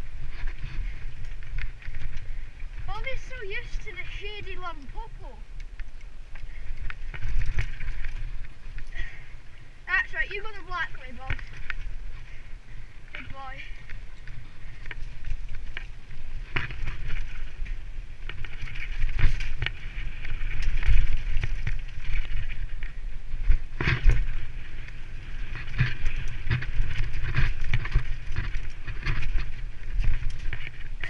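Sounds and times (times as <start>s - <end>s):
bike rattling and knocking: 0.0s - 5.1s, 5.7s - 9.3s, 9.9s - 31.0s
wind buffeting microphone: 0.0s - 31.0s.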